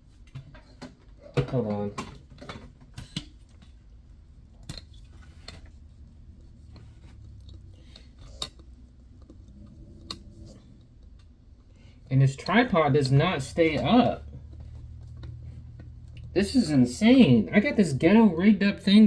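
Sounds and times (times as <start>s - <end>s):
steady low hum: 3.3s - 19.0s.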